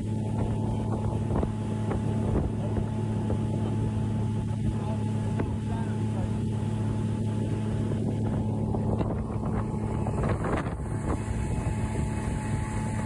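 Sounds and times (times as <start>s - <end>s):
outboard motor droning: 0.0s - 13.0s
wind buffeting microphone: 0.0s - 13.0s.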